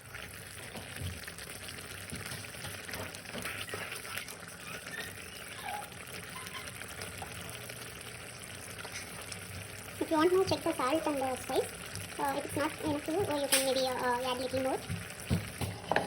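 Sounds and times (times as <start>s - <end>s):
gravy bubbling in a pan: 0.0s - 16.0s.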